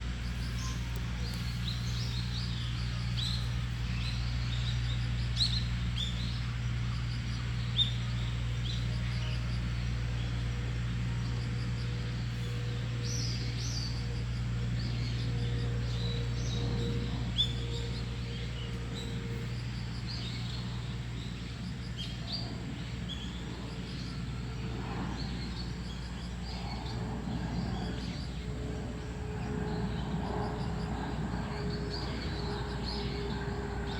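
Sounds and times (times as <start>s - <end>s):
low background rumble: 0.0s - 33.9s
small birds chirping: 0.0s - 33.9s.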